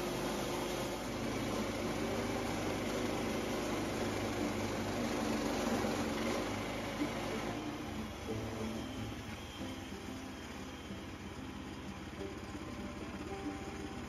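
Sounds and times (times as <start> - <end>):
band saw cutting log: 0.0 - 14.0
small gas engine running: 0.0 - 14.0.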